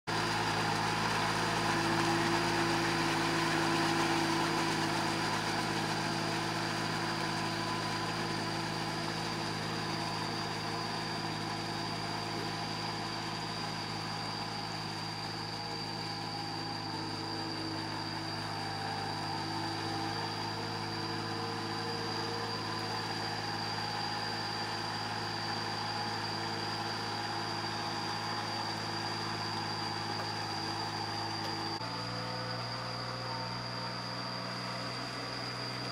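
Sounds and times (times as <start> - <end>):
diesel tractor running under load: 0.1 - 35.9.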